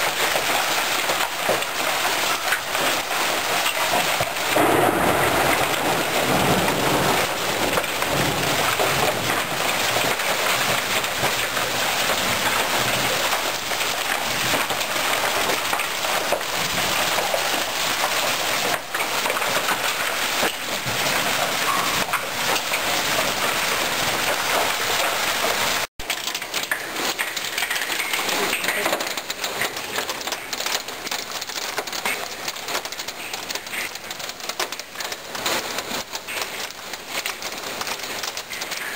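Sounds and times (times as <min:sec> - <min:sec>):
hail and heavy rain pelting down: 0:00.0 - 0:38.9.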